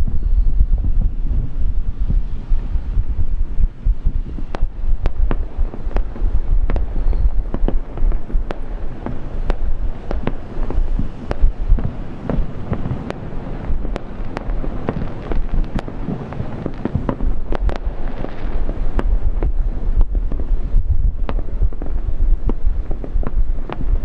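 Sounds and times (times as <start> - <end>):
low rumble: 0.0 - 12.9, 17.0 - 24.0
fireworks bangs: 1.1 - 24.0.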